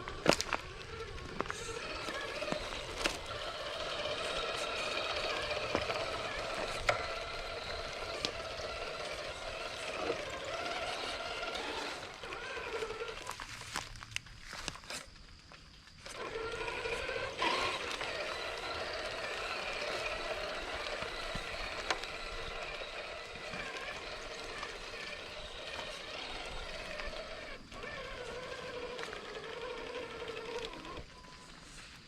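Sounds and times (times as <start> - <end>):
electric motor whining: 0.0 - 13.9, 16.0 - 32.0.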